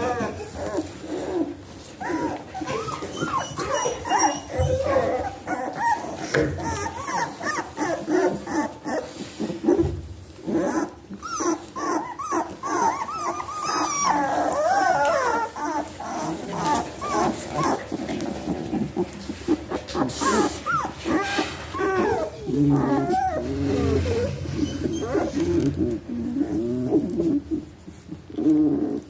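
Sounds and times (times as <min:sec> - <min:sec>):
puppies whimpering and squeaking: 0:00.0 - 0:29.0.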